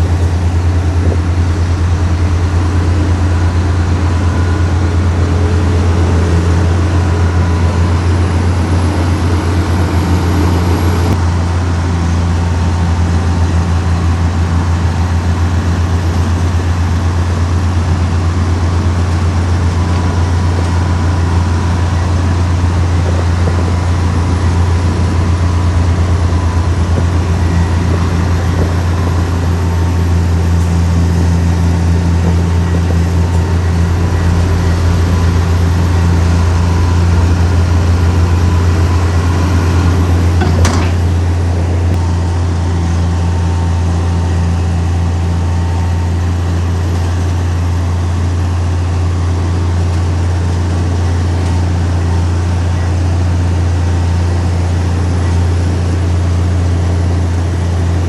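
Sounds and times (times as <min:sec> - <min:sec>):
heavy machinery diesel engine rumble: 0:00.0 - 0:58.0.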